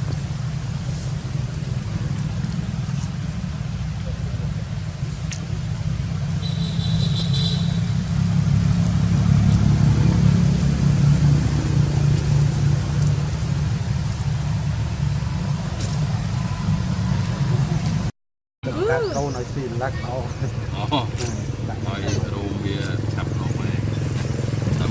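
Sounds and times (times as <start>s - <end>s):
low engine-like rumble: 0.0s - 24.9s.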